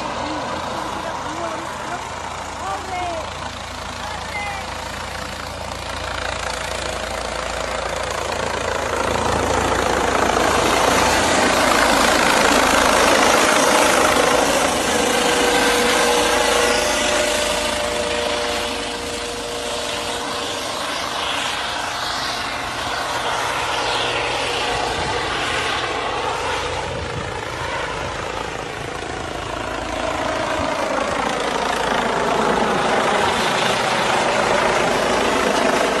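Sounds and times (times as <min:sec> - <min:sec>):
helicopter rotor and turbine: 0:00.0 - 0:36.0.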